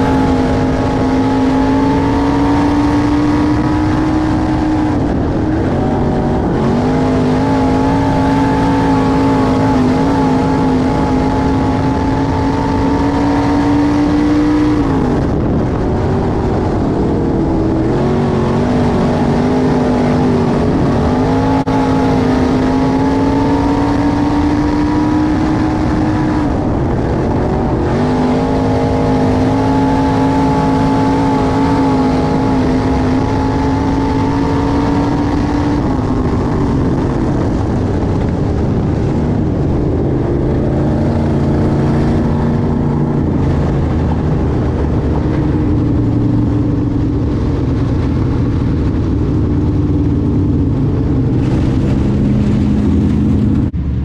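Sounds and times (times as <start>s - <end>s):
racing car engine: 0.0s - 54.0s.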